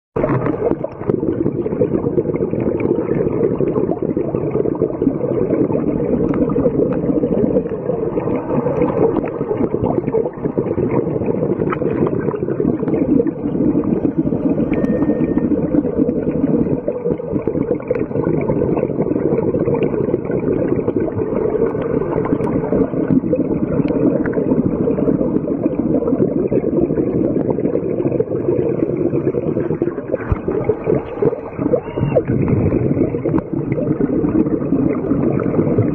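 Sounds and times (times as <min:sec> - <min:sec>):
muffled underwater rush: 0:00.1 - 0:35.9.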